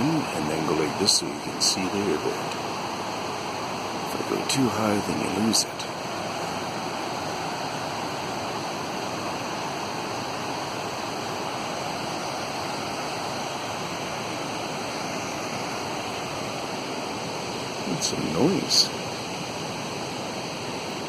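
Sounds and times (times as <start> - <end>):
creek rushing: 0.0 - 21.0.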